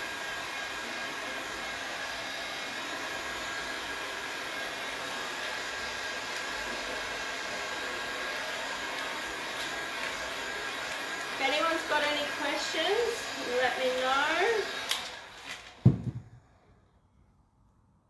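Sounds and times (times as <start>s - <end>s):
heat gun blowing: 0.0s - 16.4s.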